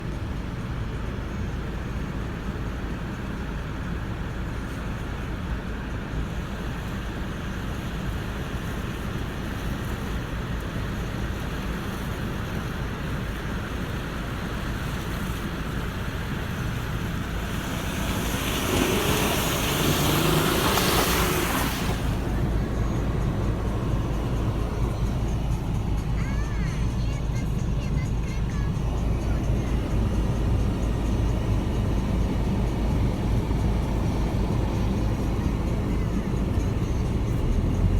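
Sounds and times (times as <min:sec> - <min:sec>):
engine and drivetrain rumble: 0:00.0 - 0:37.9.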